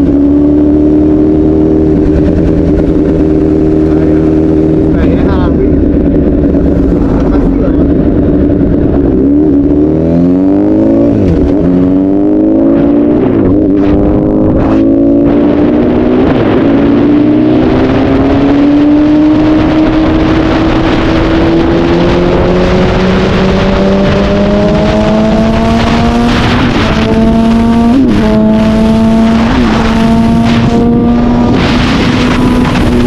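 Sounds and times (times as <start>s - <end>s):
motorcycle engine accelerating: 0.0s - 33.0s
wind noise: 0.0s - 33.0s.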